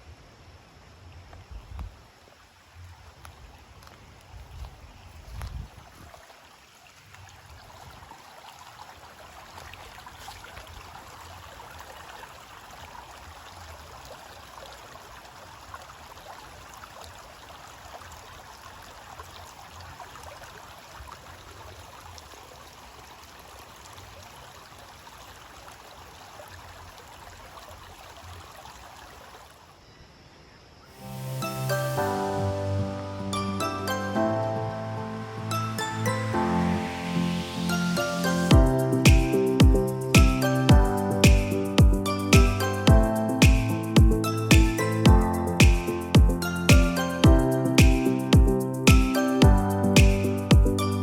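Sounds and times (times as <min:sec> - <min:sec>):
stream flowing: 0:00.0 - 0:29.9, 0:30.9 - 0:51.0.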